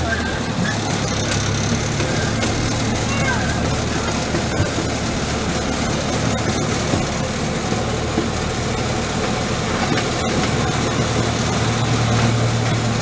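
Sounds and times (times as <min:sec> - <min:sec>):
clicks from track and cars: 0:00.0 - 0:13.0
miniature train engine humming: 0:00.0 - 0:13.0.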